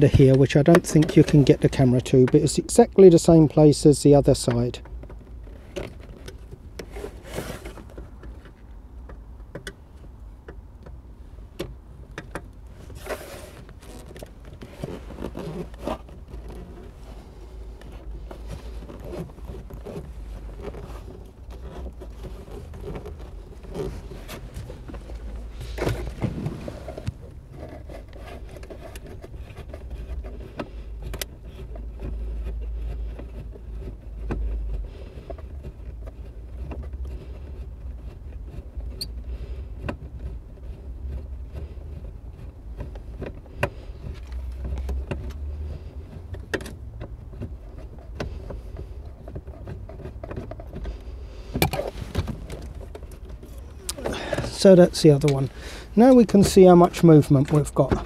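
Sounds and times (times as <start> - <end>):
clicks knocks and scrapes on dashboard: 0.0 - 2.8, 4.3 - 58.0
low steady rumble: 0.0 - 58.0.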